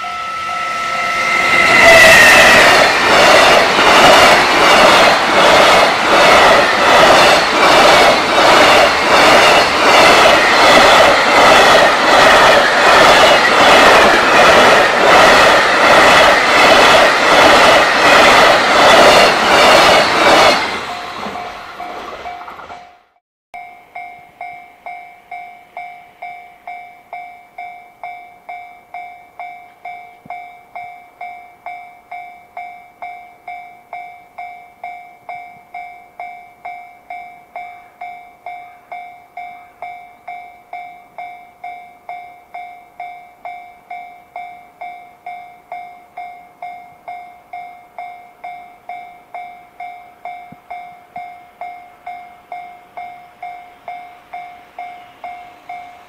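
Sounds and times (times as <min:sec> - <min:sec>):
level crossing alarm bell ringing: 0:00.0 - 0:56.0.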